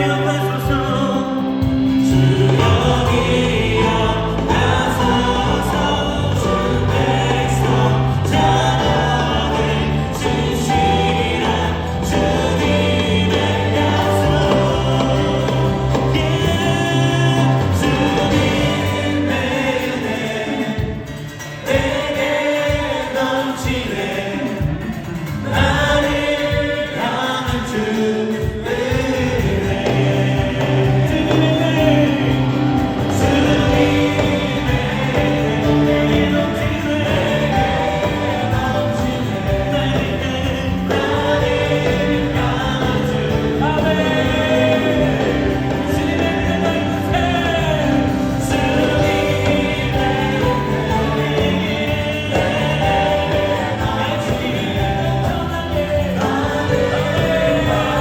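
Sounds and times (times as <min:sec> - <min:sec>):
bass guitar: 0:00.0 - 0:22.0, 0:24.6 - 0:26.6, 0:28.7 - 0:58.0
drums: 0:00.0 - 0:58.0
electric guitar: 0:00.0 - 0:58.0
keyboard: 0:00.0 - 0:58.0
singers in chorus: 0:00.0 - 0:58.0.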